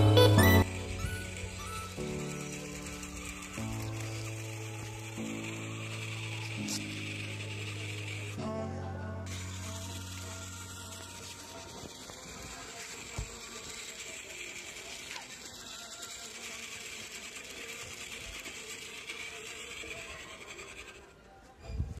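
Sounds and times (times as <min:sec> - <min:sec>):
toy motor whirring with ticking: 0:00.4 - 0:22.0.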